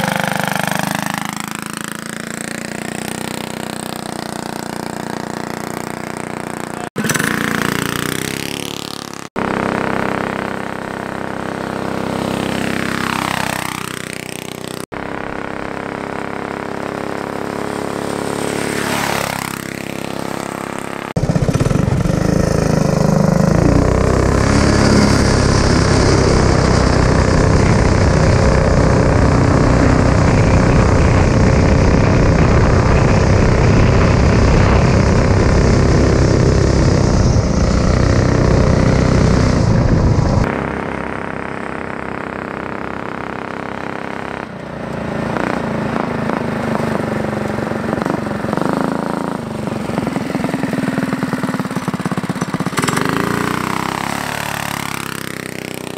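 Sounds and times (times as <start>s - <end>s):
go-kart engine running hard: 0.0s - 55.9s.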